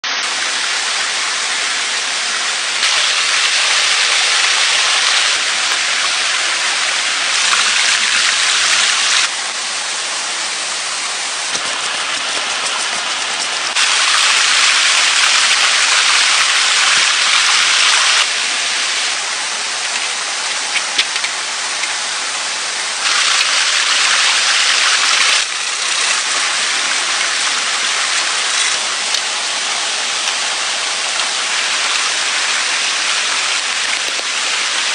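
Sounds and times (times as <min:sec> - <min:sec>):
water rushing over rocks: 0:00.0 - 0:34.9.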